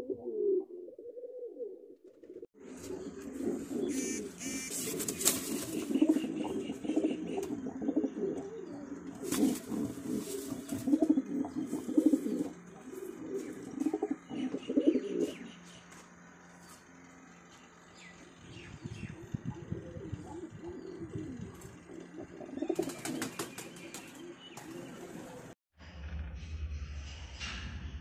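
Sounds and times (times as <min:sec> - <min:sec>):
pigeons cooing: 0:00.0 - 0:15.6, 0:18.5 - 0:25.6.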